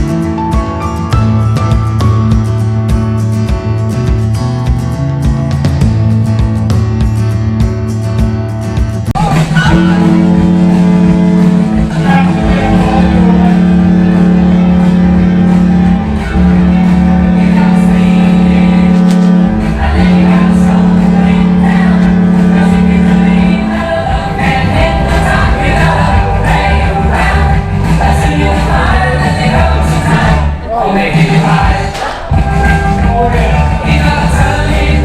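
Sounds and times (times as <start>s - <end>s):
music with singing: 0.0s - 35.0s.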